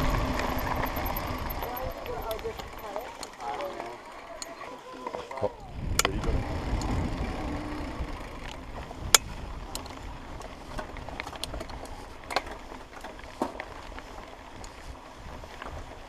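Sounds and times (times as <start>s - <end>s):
bike clicks and rattles: 0.0s - 16.0s
bike tyres rumbling on dirt: 0.0s - 16.0s.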